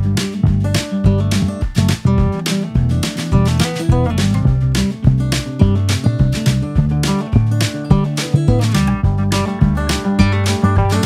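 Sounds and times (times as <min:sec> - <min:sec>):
bass line: 0:00.0 - 0:11.0
strummed guitar: 0:00.0 - 0:11.0.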